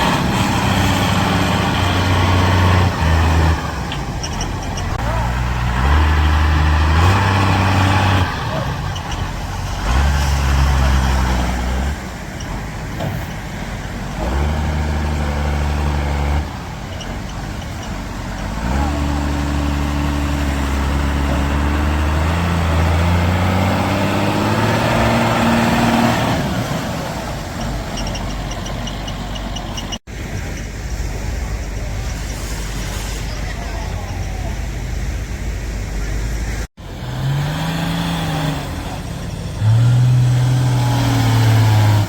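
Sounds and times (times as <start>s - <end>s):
vehicle engines accelerating: 0.0s - 42.0s.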